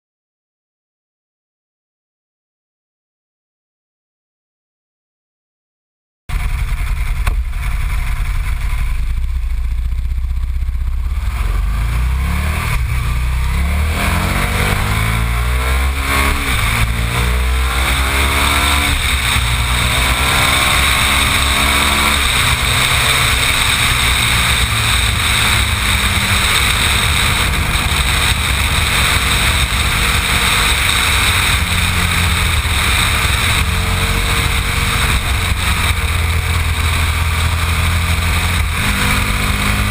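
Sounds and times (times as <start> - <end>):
motorcycle accelerating hard: 6.3 - 39.9
rushing noise: 6.3 - 39.9.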